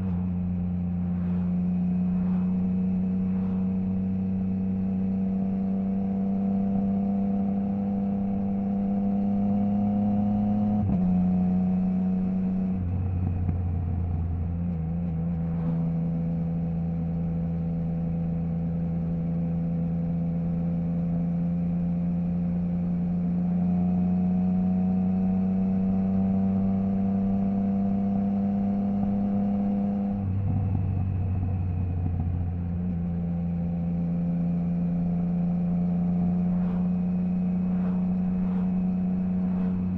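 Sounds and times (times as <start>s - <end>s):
motorcycle engine with gear changes: 0.0s - 39.9s.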